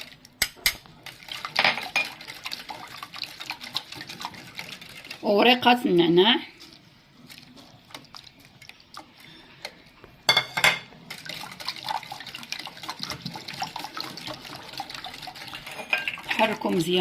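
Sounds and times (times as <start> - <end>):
liquid sloshing in a bowl: 0.0 - 17.0.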